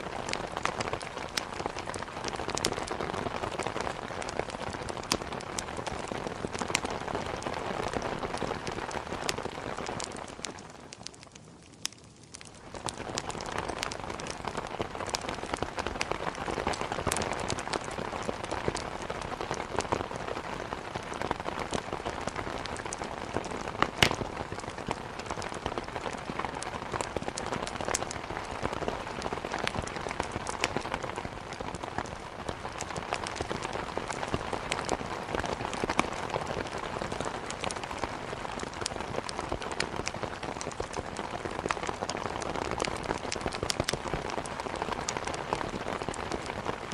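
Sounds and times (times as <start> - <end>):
fire crackling and popping: 0.0 - 46.9
heavy rain: 0.0 - 46.9.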